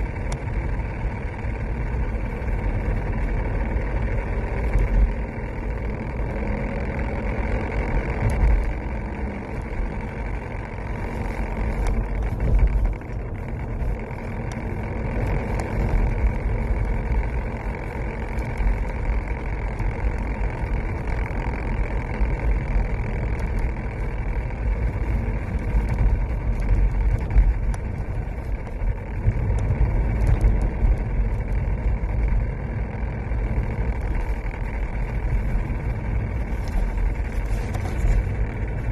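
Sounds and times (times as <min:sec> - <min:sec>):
car road and drivetrain rumble: 0:00.0 - 0:38.9
faint ticks: 0:00.0 - 0:38.9.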